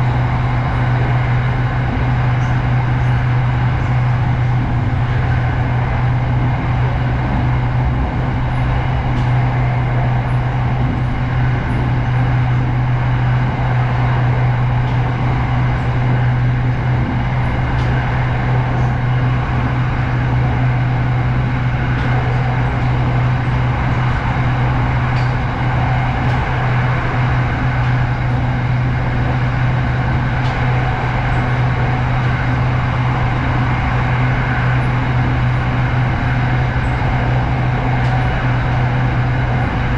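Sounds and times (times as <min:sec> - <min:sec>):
electric train rumbling: 0:00.0 - 0:39.9
steady low hum: 0:00.0 - 0:39.9.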